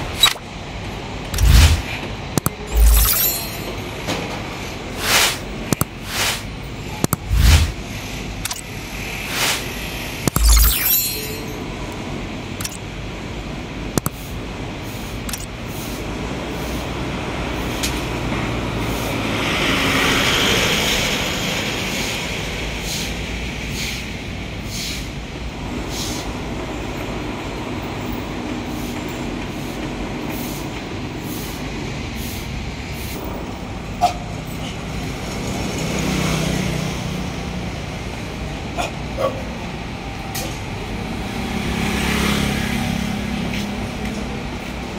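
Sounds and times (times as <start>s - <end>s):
vehicles passing: 0.0s - 27.9s, 31.8s - 44.9s.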